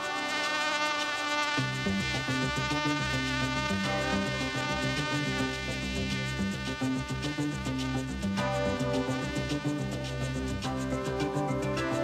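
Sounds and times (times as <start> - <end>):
buzzing drone: 0.0 - 12.0.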